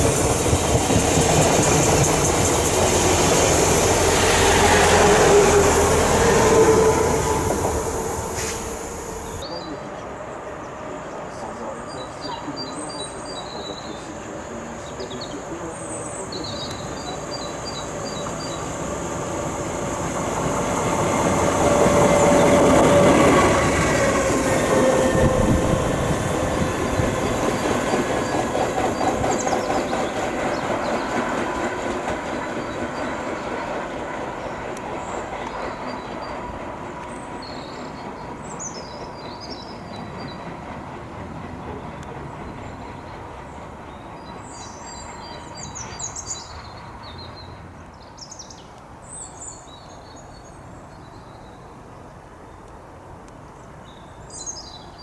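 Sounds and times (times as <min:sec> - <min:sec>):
diesel locomotive running: 0:00.0 - 0:47.8
birds chirping: 0:04.6 - 0:51.7.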